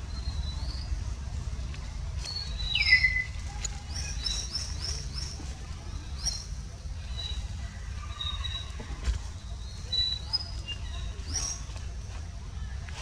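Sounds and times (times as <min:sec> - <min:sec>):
birds chirping: 0:00.0 - 0:12.0
steady low rumble: 0:00.0 - 0:13.0.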